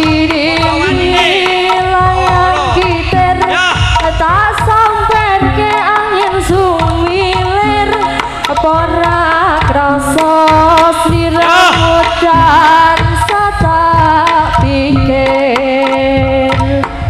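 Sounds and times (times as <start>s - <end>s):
gamelan music: 0.0s - 17.0s.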